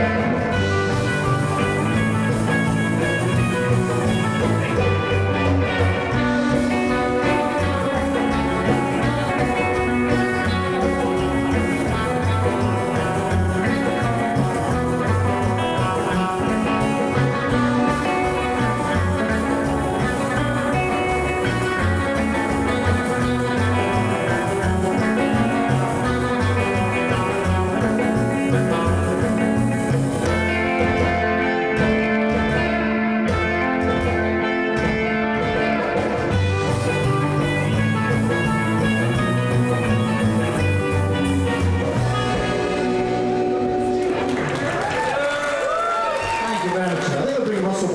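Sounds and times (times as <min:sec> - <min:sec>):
upright double bass: 0:00.0 - 0:45.2
drum kit beat: 0:00.0 - 0:47.2
electric guitar: 0:00.0 - 0:47.9
rockabilly band playing: 0:00.0 - 0:47.9.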